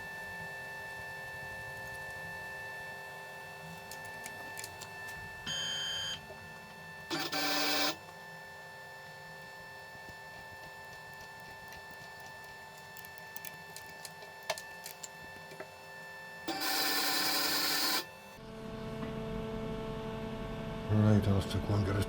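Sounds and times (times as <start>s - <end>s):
workshop machine hum: 0.0s - 21.5s.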